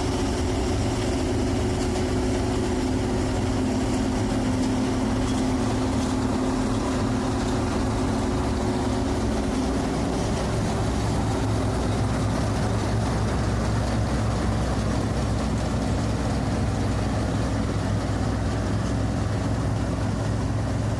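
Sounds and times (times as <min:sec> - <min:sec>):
diesel engines running: 0:00.0 - 0:20.9.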